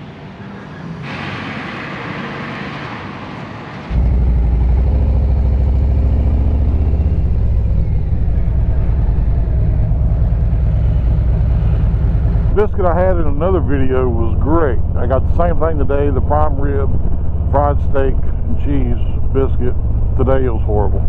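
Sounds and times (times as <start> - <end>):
motorcycle engine running: 3.9 - 21.0.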